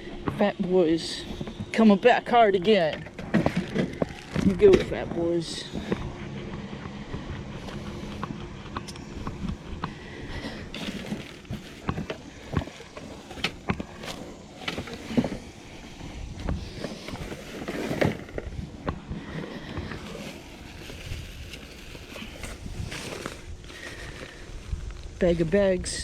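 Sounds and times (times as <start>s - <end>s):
trash bags rustling: 0.0s - 25.5s.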